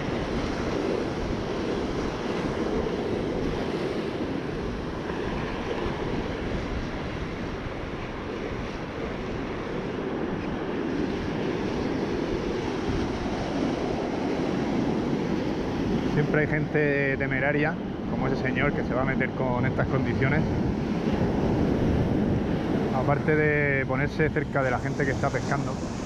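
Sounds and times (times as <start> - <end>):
heavy surf breaking on beach: 0.0 - 26.0
wind buffeting microphone: 0.0 - 26.0.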